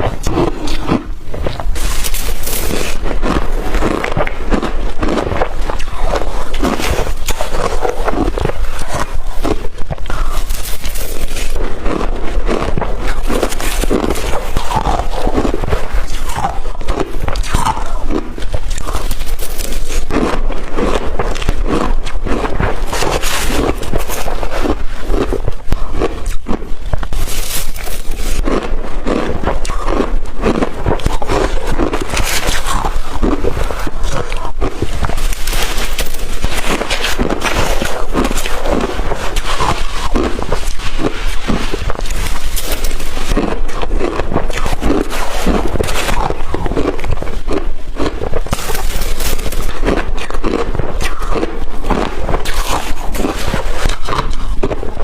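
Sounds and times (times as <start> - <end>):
chewing crushed ice: 0.0 - 55.0
swallowing: 0.0 - 55.0.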